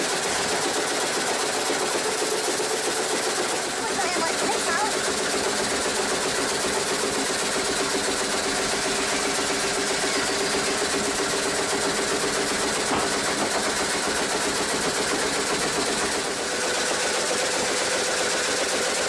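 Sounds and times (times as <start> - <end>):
machine engine running: 0.0 - 19.0.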